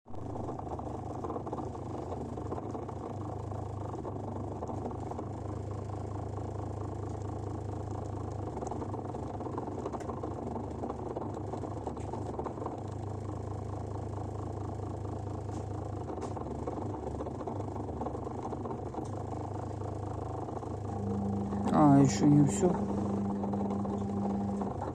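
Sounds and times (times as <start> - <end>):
drain pump running: 0.1 - 24.9
washing machine humming: 0.1 - 24.9.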